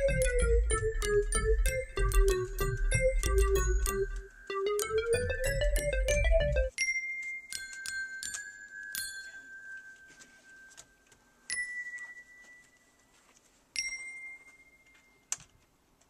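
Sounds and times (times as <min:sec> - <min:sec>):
glockenspiel notes: 0:00.0 - 0:15.3.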